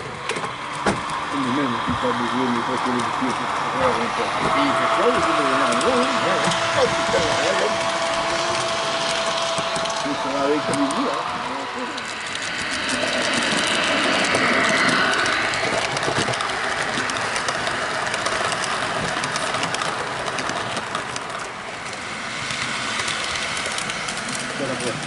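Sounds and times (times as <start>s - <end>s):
model train running: 0.0s - 25.0s
wheels clicking on track: 0.0s - 25.0s.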